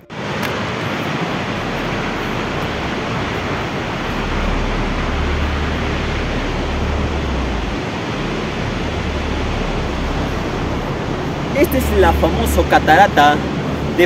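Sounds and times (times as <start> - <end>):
waterfall roaring: 0.0 - 14.0
wind rumble on microphone: 0.0 - 14.0.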